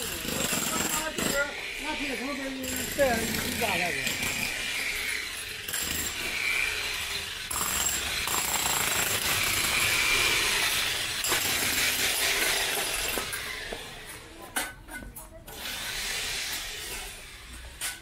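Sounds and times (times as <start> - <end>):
power tools grinding and hammering: 0.0 - 18.0.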